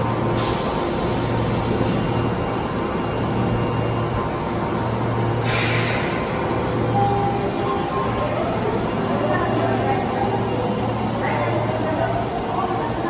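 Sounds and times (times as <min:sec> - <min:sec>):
train low hum: 0:00.0 - 0:13.0.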